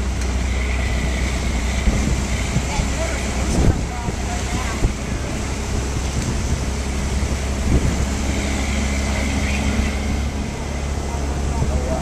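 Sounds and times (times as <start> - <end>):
rush of water noise: 0.0 - 12.0
truck engine running: 0.0 - 12.0.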